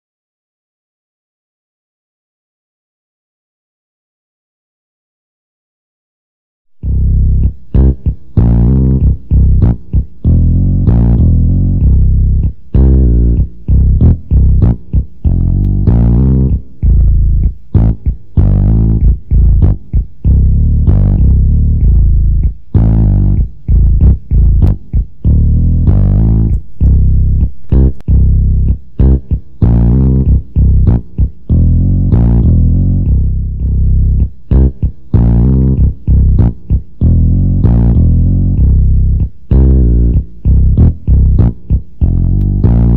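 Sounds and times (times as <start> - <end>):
guitar: 6.8 - 42.9
plucked bass line: 6.8 - 42.9.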